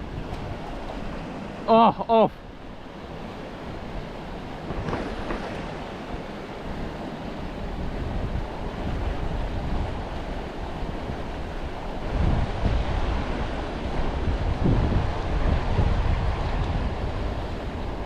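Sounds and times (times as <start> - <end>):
wind buffeting microphone: 0.0 - 1.4, 2.4 - 18.0
rushing water: 0.0 - 18.0.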